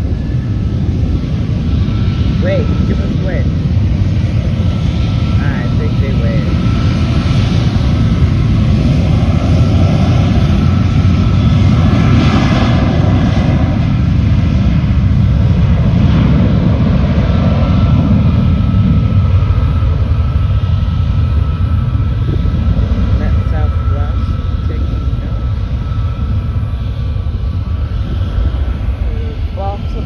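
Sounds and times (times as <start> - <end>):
jet airliner engines running: 0.0 - 30.0.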